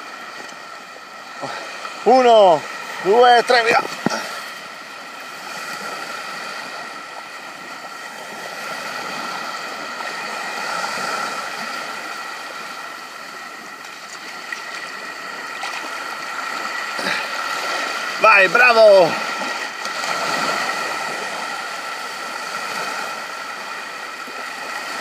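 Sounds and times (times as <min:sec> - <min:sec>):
small waves washing onto sand: 0:00.0 - 0:25.0.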